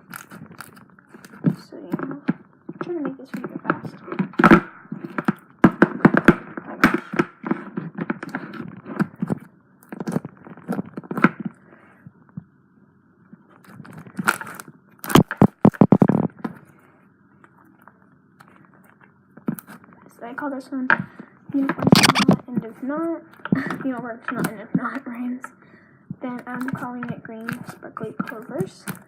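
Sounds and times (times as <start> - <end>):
slime squished crackling: 0.0 - 12.0, 13.4 - 16.8, 17.4 - 29.0.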